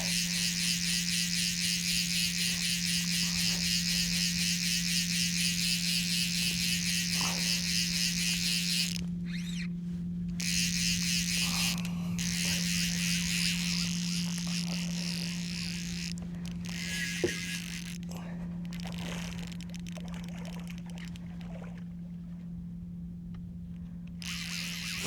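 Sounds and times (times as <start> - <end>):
high-pitched pulsing buzz: 0.0 - 21.7, 24.1 - 25.0
constant low hum: 0.0 - 25.0.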